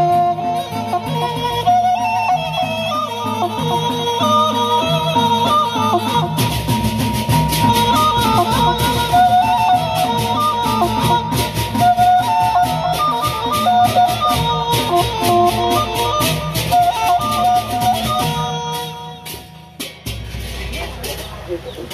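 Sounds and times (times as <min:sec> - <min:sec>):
large barrel drums: 0:00.0 - 0:21.9.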